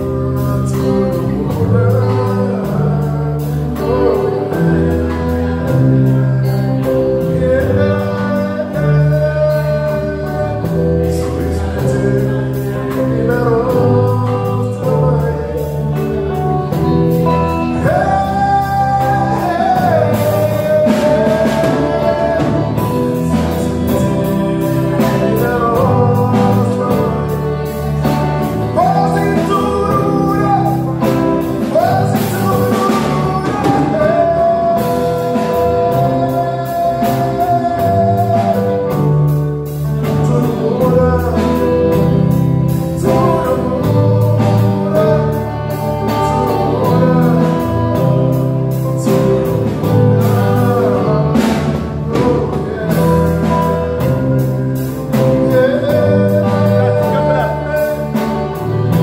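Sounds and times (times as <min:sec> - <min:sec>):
live band with drums and guitar: 0:00.0 - 0:59.0
man singing: 0:00.0 - 0:59.0.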